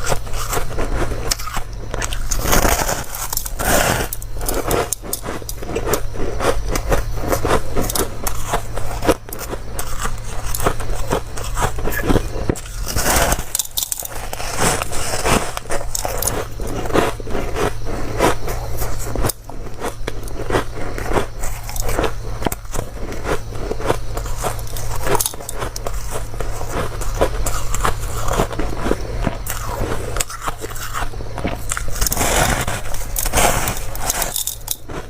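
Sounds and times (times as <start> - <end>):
person chewing crunchy ice: 0.0 - 35.0.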